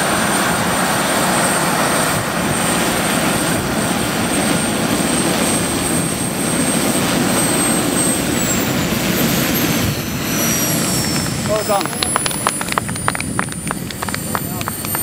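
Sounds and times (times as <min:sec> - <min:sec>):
helicopter rotor: 0:00.0 - 0:15.0
model helicopter turbine whine: 0:00.0 - 0:15.0.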